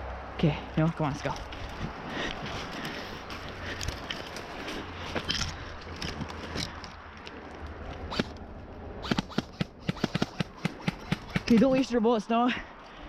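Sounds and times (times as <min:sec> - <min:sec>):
rustling through brush: 0:00.7 - 0:08.4, 0:09.0 - 0:12.0.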